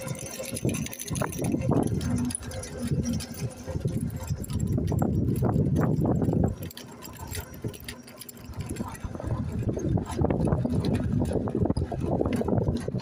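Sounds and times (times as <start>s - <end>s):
mobility scooter rolling over bricks: 0.0s - 13.0s
wheels rattling and clicking: 0.0s - 13.0s.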